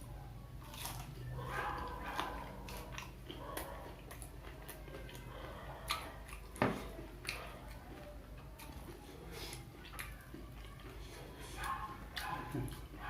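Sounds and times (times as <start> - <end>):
chewing and mouth sounds: 0.6 - 13.0.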